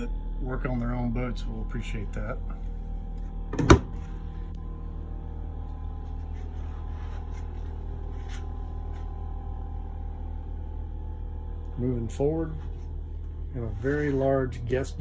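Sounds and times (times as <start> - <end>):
evenly spaced low tones: 0.0 - 15.0
steady low hum: 0.0 - 15.0.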